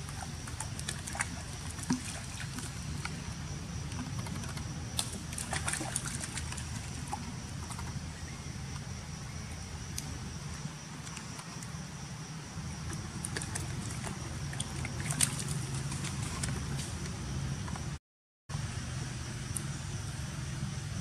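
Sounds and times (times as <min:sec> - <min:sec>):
monkeys splashing in puddle: 0:00.0 - 0:17.0
outdoor background noise: 0:00.0 - 0:21.0.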